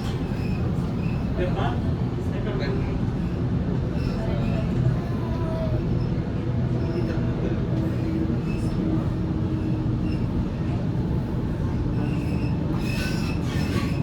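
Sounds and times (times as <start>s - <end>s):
train squeal: 0.0s - 1.8s, 3.1s - 14.0s.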